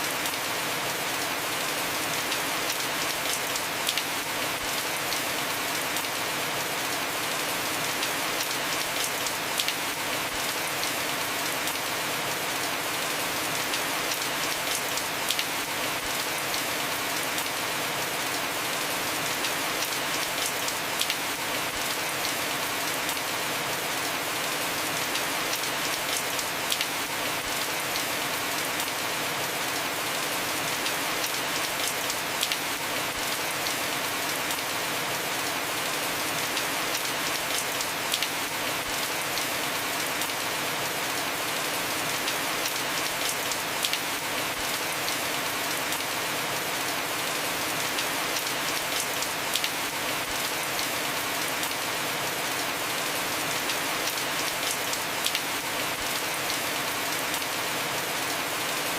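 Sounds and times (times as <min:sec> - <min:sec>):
heavy rain on a roof: 0:00.0 - 0:58.9.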